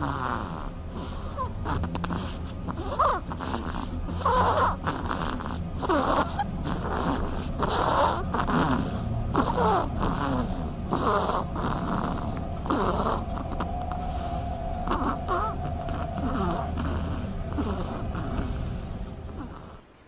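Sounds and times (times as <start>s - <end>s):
ducklings snoring: 0.0s - 20.0s.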